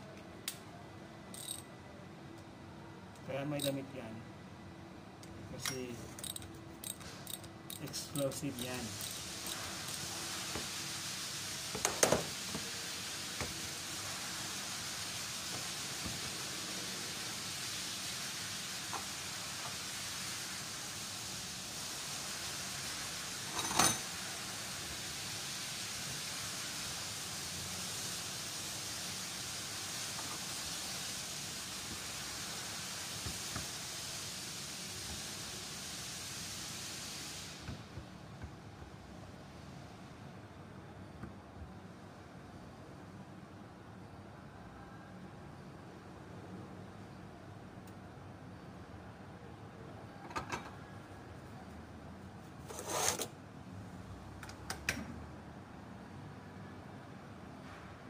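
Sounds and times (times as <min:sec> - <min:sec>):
workshop background hiss: 0:00.0 - 0:58.0.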